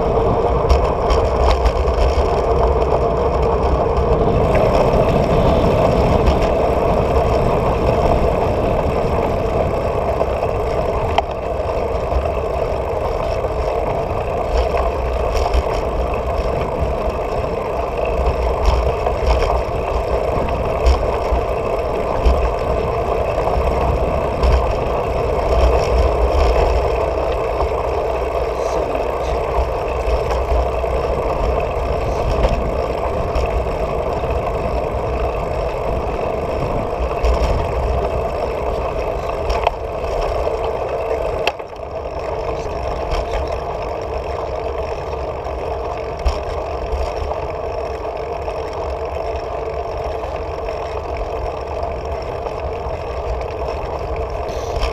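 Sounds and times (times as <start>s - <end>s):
bicycle rattling over bumps: 0.0s - 54.9s
tyres on asphalt: 0.0s - 54.9s
wind rumble: 0.0s - 54.9s.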